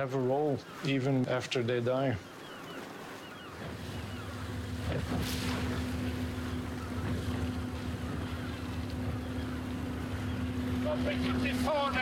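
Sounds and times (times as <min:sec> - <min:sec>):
boat engine humming: 0:00.0 - 0:12.0
water: 0:00.0 - 0:12.0.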